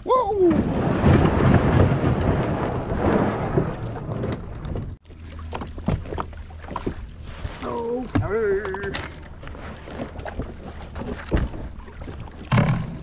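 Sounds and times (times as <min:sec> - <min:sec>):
knocks and scrapes: 0:00.6 - 0:13.0
kayak scraping over gravel: 0:00.7 - 0:12.2.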